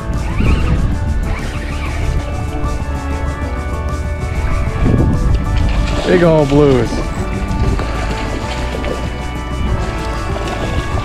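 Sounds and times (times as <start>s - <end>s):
background music with heavy bass: 0.0s - 11.0s.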